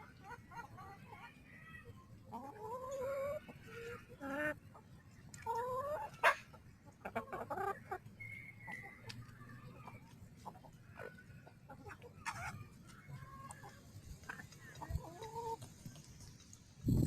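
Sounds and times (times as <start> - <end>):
drawn-out rising chicken calls: 0.0 - 15.9
chickens clucking: 0.0 - 16.6.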